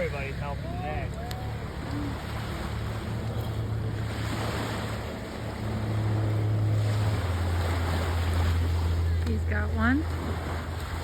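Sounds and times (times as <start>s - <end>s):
low motor hum: 0.0s - 11.0s
water washing in waves: 0.0s - 11.0s.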